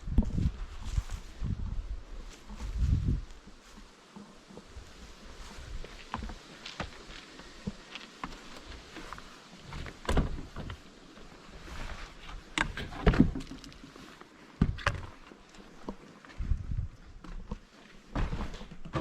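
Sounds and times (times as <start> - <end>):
footsteps: 0.0 - 19.0.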